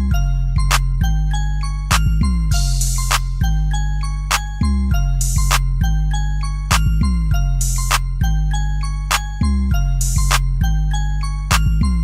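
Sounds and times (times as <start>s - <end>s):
beat with heavy bass: 0.0s - 12.0s
bell-like mallet notes: 0.0s - 12.0s.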